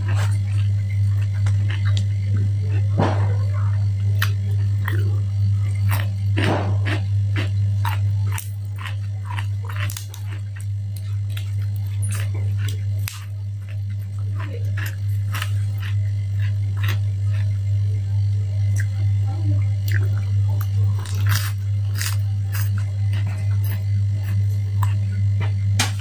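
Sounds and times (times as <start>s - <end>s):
crunchy vegetable chewing: 0.0s - 26.0s
low electrical hum: 0.0s - 26.0s.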